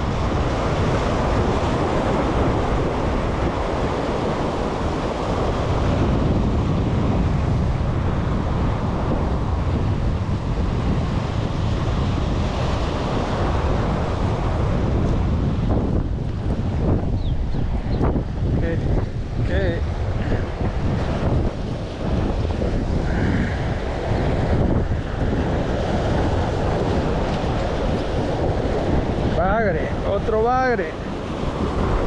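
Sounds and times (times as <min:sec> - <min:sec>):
waves washing on jetty: 0:00.0 - 0:32.0
wind buffeting microphone: 0:00.0 - 0:32.0.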